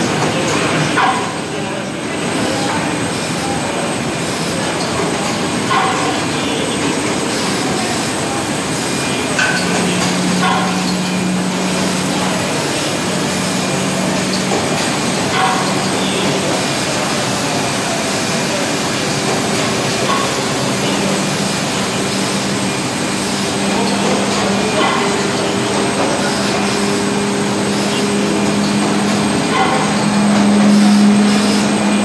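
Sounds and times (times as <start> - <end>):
machinery hum: 0.0 - 32.0.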